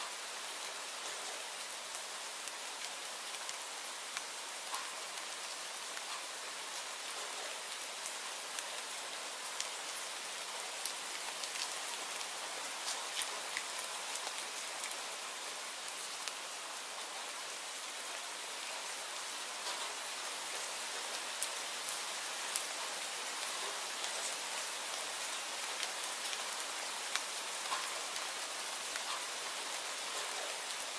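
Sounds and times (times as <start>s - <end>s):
sharp rain ticks: 0.0s - 16.5s, 18.1s - 30.9s
steady rainfall: 0.0s - 30.9s.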